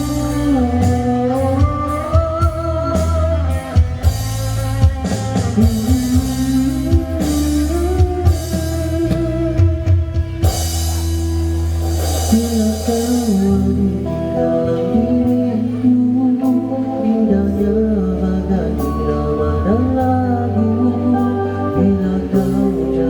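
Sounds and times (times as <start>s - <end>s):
instrumental band music: 0.0s - 23.0s.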